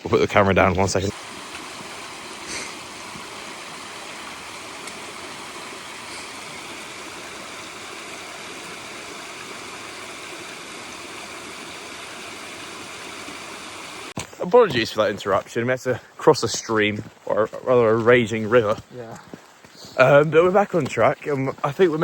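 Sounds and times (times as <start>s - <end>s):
stream rushing over rocks: 0.0s - 18.8s.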